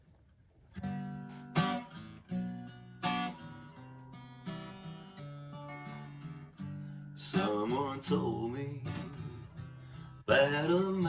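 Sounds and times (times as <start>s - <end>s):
acoustic guitar strumming chords: 0.8s - 11.0s.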